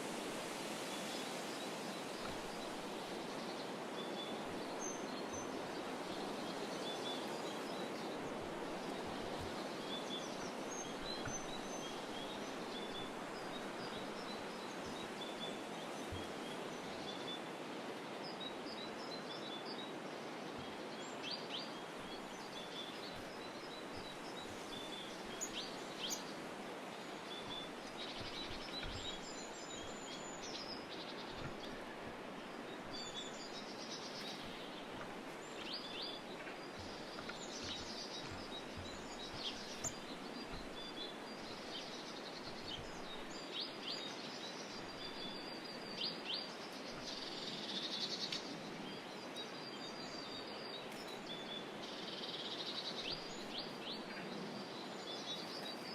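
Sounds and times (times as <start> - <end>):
songbirds chirping: 0.0 - 55.9
steady background hiss: 0.0 - 55.9.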